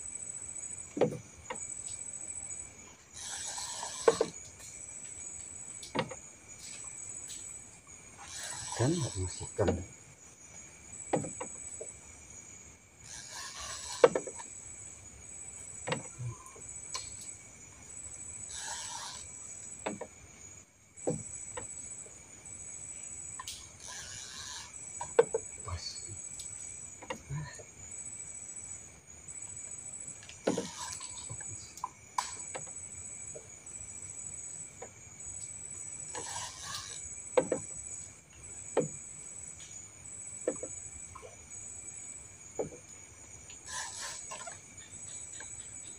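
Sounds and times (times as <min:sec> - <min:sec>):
night insects chirring: 0:00.0 - 0:45.9.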